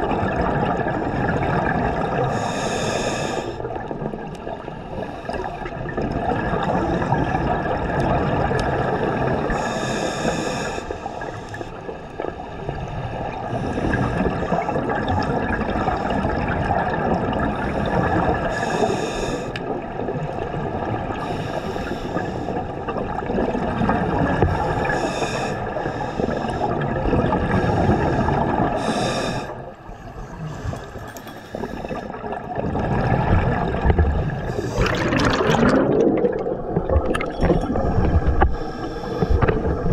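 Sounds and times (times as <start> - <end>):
scuba regulator bubbles: 0.0 - 39.9.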